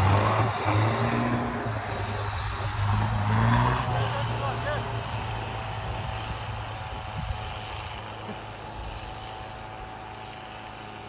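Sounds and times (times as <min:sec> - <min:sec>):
truck engine droning under load: 0:00.0 - 0:11.0.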